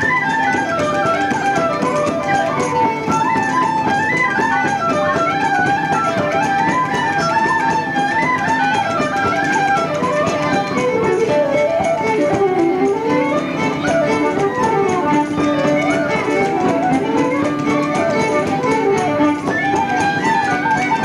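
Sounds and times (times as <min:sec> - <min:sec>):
fiddle playing a quick tune: 0:00.0 - 0:21.0
plucked-string accompaniment: 0:00.0 - 0:21.0.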